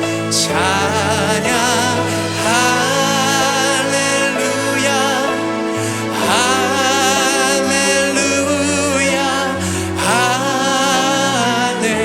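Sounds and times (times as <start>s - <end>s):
instrumental accompaniment: 0.0s - 12.0s.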